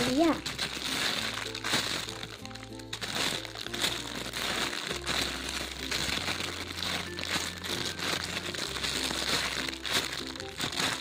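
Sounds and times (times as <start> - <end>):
quiet background music: 0.0 - 11.0
squishy toy crinkling and rustling: 0.0 - 11.0.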